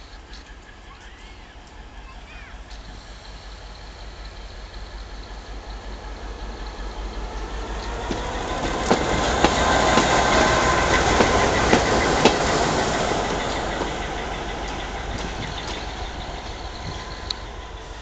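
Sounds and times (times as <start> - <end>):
train passing: 0.0 - 18.0
wheels clicking over rail joints: 0.0 - 18.0.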